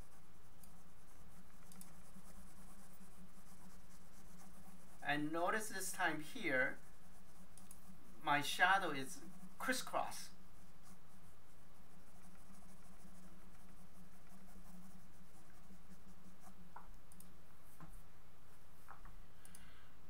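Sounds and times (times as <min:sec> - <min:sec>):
pencil scratching on paper: 0:00.0 - 0:16.6
low electrical hum: 0:00.0 - 0:20.0.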